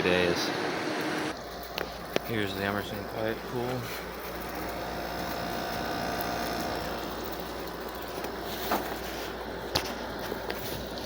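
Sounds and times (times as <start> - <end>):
air conditioner fan blowing: 0.0 - 11.0.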